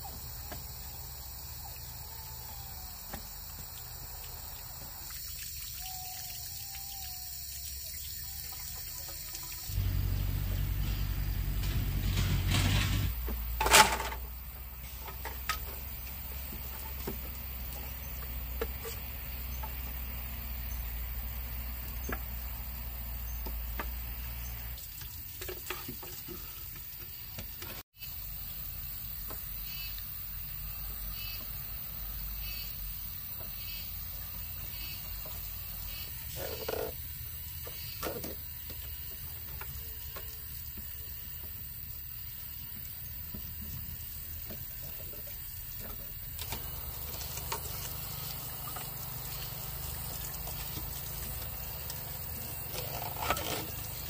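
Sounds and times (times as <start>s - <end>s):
water running: 0.2s - 27.8s, 33.0s - 54.0s.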